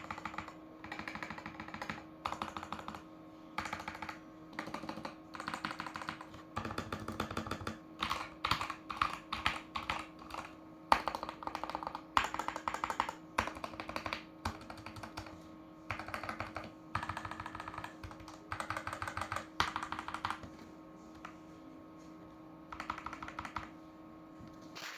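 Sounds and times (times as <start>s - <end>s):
mechanical keyboard typing: 0.0s - 3.0s, 3.6s - 20.5s, 22.7s - 23.7s
faint steady hum: 0.0s - 24.9s.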